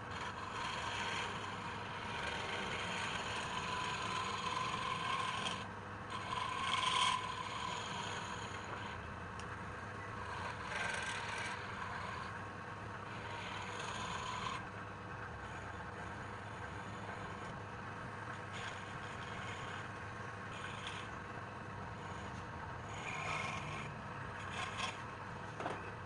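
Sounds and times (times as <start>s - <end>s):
wood lathe running: 0.0s - 25.8s
tool scraping spinning wood: 0.0s - 26.0s.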